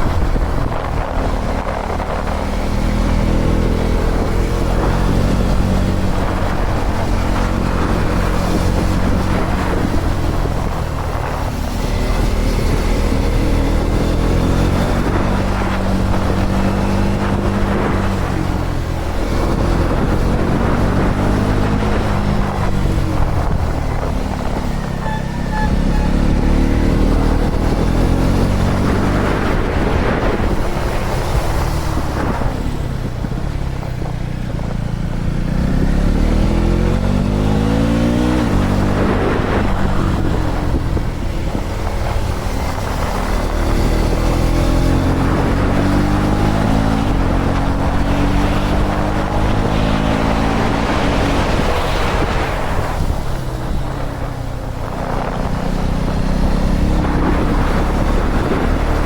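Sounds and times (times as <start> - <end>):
motorcycle engine revving: 0.0 - 59.0
wind rushing: 0.0 - 59.0.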